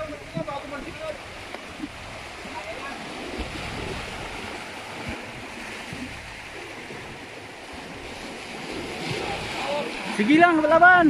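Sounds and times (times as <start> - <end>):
moving water: 0.0 - 11.0.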